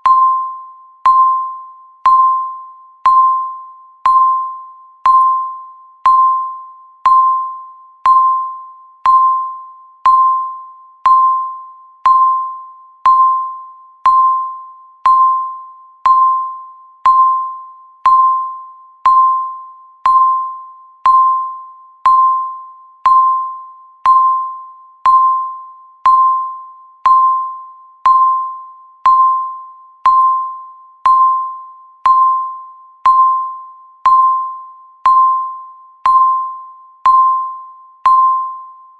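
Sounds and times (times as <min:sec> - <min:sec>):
electronic timer beeps: 0:00.0 - 0:38.9.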